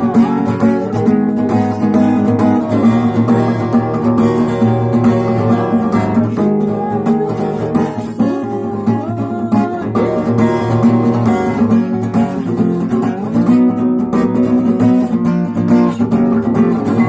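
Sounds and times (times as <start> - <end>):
acoustic guitar percussive strumming: 0.0 - 17.0.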